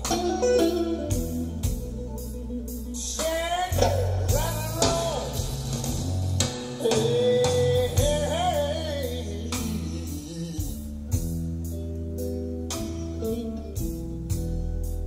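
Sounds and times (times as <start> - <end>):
song with voice guitar and bass: 0.0 - 15.0.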